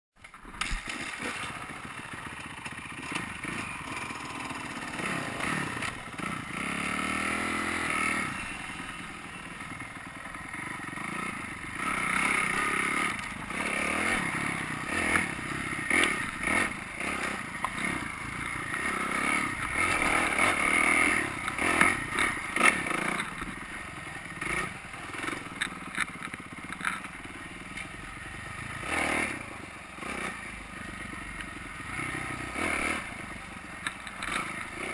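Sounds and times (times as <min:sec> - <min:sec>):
dirt bike engine revving: 0:00.3 - 0:34.9.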